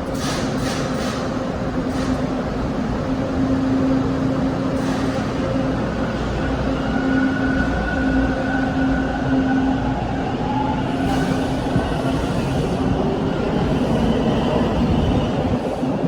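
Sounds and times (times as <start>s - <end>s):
subway train rumble and hum: 0.0s - 16.0s.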